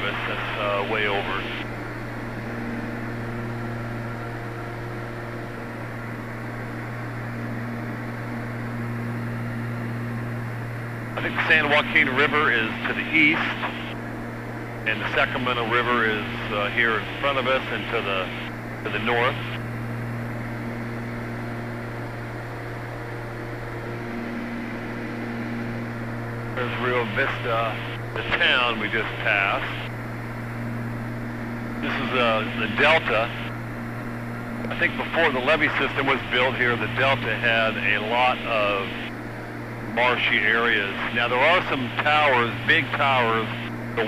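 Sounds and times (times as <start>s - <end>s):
light aircraft engine droning: 0.0s - 44.0s.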